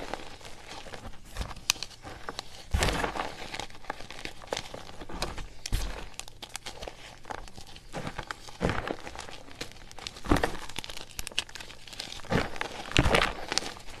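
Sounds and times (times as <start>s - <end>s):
chalk crumbling by hand: 0.0s - 14.0s.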